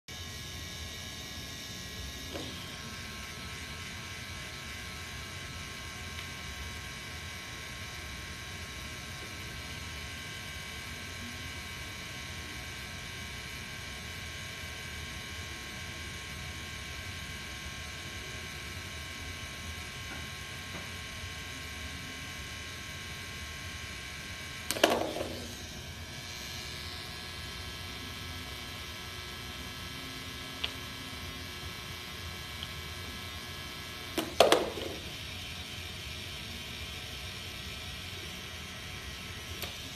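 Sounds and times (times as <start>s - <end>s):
electric shaver buzzing: 0.1s - 39.9s.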